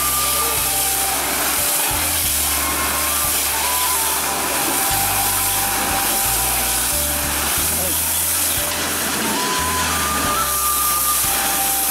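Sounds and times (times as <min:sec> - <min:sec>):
pressure washer spraying water: 0:00.0 - 0:11.9.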